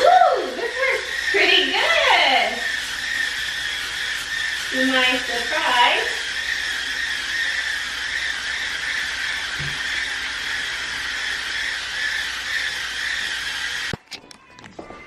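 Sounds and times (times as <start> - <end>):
spinning brush whirring: 0.0 - 14.0.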